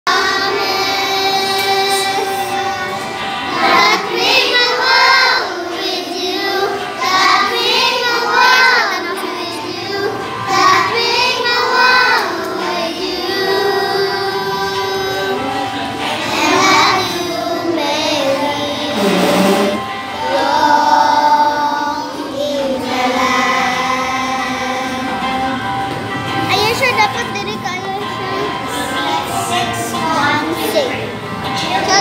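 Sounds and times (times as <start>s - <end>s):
young children singing: 0.1s - 26.5s, 28.0s - 32.0s.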